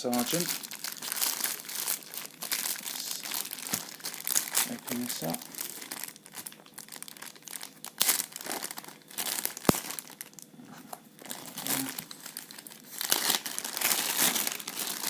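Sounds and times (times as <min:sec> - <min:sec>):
wrapping crinkling and tearing: 0:00.0 - 0:10.5, 0:11.1 - 0:15.0.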